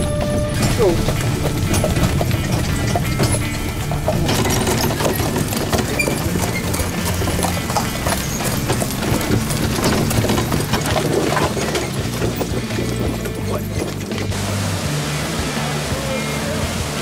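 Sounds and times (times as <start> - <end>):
hooves clip-clopping on gravel: 0.0 - 17.0.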